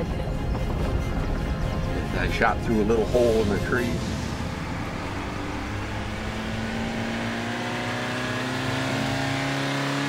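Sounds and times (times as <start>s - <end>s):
pickup truck engine running: 0.0s - 8.7s.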